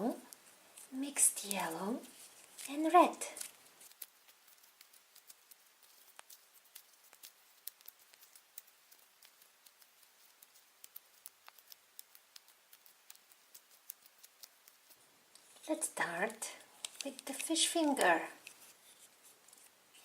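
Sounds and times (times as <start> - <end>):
hands kneading playdough: 0.0 - 20.0.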